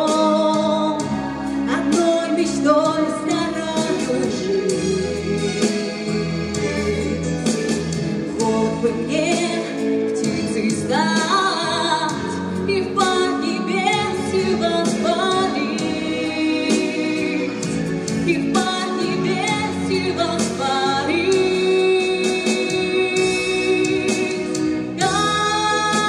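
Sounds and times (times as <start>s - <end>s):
woman singing into microphone: 0.0s - 5.6s, 8.2s - 26.0s
accompanying music: 0.0s - 26.0s.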